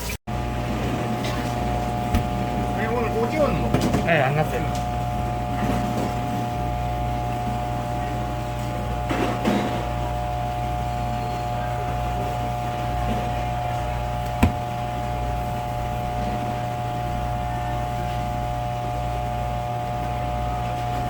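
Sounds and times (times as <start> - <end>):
steady machine hum with tones: 0.3 - 21.0.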